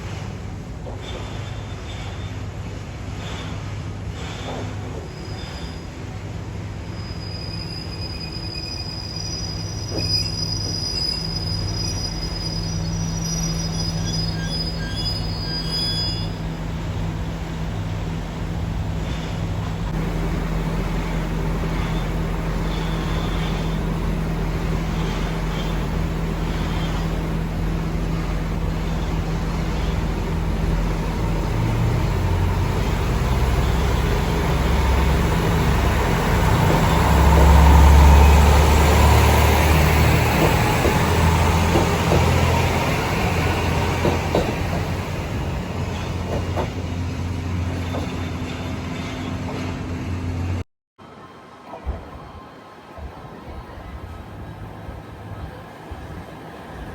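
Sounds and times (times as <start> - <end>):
high squeal of train: 0.0 - 56.9
train rumbling on rails: 0.0 - 56.9.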